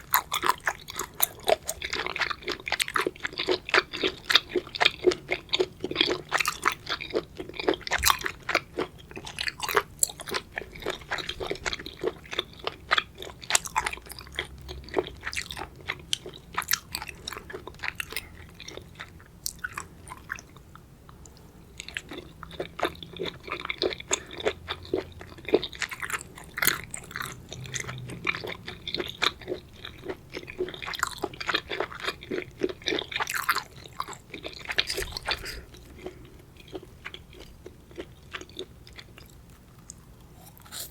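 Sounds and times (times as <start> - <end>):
crunchy wet chewing: 0.0 - 40.9.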